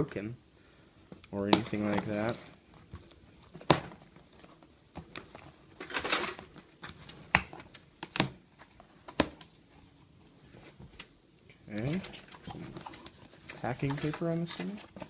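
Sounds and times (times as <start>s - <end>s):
packing paper rustling: 1.3s - 10.8s, 11.7s - 15.0s.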